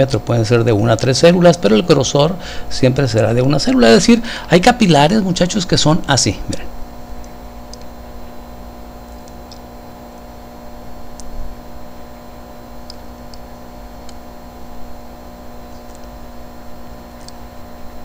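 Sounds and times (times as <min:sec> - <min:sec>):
electrical hum with hiss: 0:00.0 - 0:18.0.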